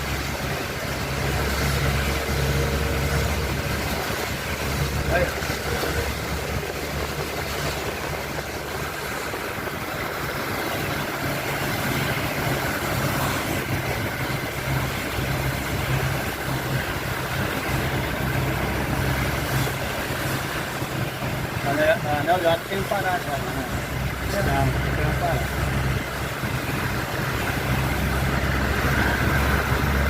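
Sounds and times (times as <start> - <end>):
heavy rain hissing: 0.0 - 30.0
vehicle engine idling: 0.0 - 30.0.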